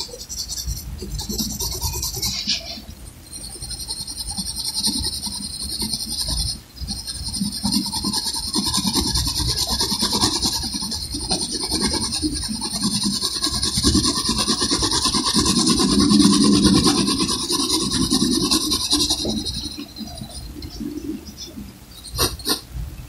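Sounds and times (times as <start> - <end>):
pencil shading on paper: 0.0 - 21.4, 22.0 - 22.6.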